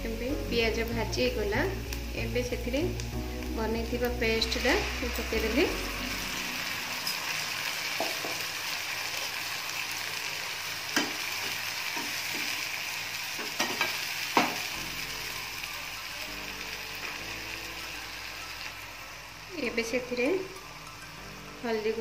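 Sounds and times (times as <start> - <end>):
paste sizzling in hot oil: 0.0 - 22.0.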